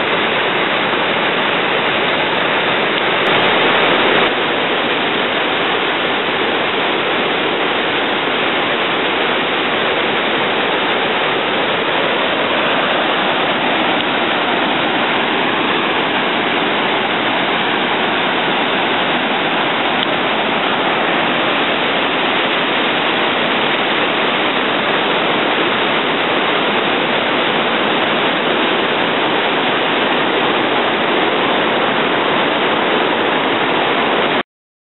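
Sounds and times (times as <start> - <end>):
waterfall rushing: 0.0 - 34.4.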